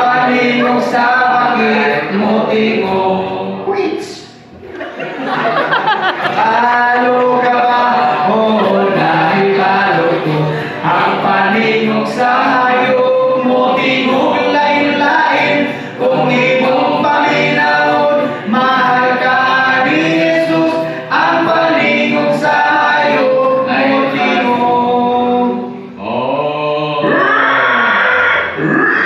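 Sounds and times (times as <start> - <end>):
group singing a cappella: 0.0 - 3.7, 5.0 - 28.7.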